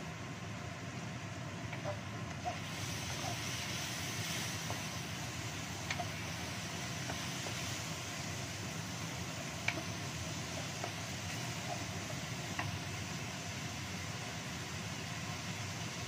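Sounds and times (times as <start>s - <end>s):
chillies sizzling in oil: 0.0s - 16.0s
gas burner rushing: 0.9s - 16.0s.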